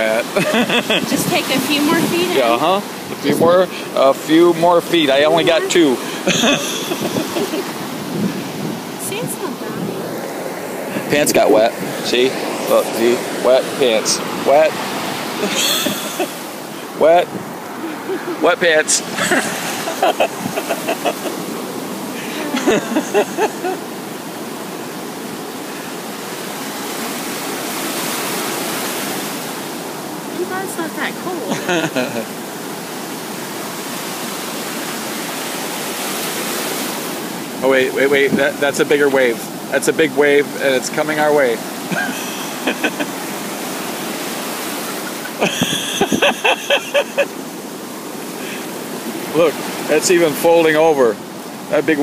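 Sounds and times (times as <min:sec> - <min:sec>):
ocean waves breaking: 0:00.0 - 0:52.0
surf washing in: 0:00.0 - 0:52.0.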